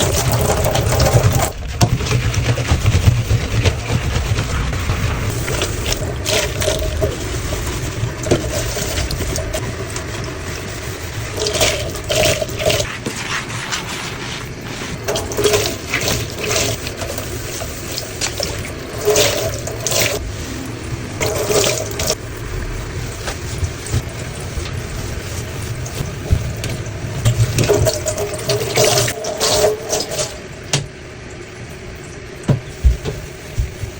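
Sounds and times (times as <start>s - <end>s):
water running from a tap: 0.0s - 33.9s
water splashing in a sink: 0.0s - 33.9s.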